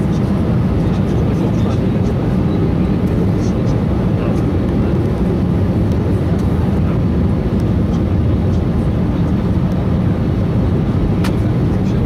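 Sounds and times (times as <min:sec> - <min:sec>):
aircraft rolling on taxiway: 0:00.0 - 0:12.0
jet engines at taxi power: 0:00.0 - 0:12.0.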